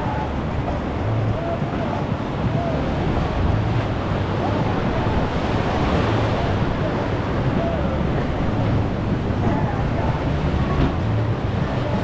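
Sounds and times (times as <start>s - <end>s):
whitewater rushing: 0.0s - 12.0s
wind buffeting microphone: 0.0s - 12.0s.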